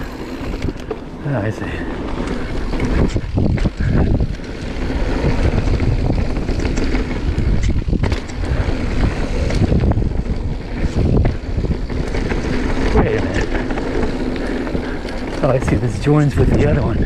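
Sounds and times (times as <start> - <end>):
bike rattling clicks and knocks: 0.0 - 17.0
bike tyres rumbling on dirt: 0.0 - 17.0
wind buffeting microphone: 0.0 - 17.0.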